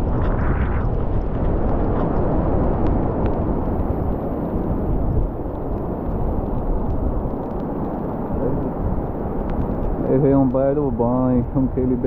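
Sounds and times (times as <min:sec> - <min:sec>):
strong wind buffeting microphone: 0:00.0 - 0:12.0
faint ticks: 0:00.9 - 0:11.7.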